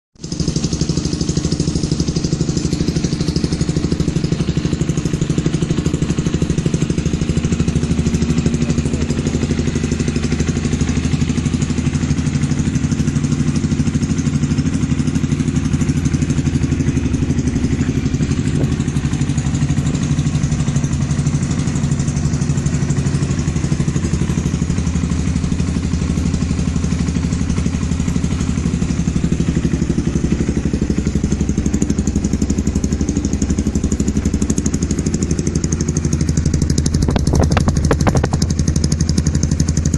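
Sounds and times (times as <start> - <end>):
motorcycle engine idling: 0.2 - 39.9.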